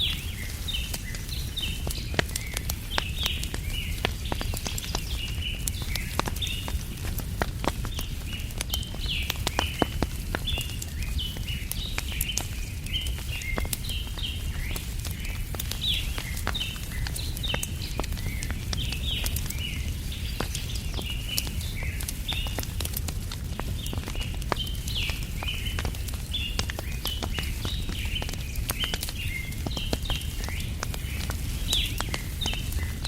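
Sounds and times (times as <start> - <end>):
birds chirping: 0.0 - 33.0
wood fire crackling: 0.0 - 33.0.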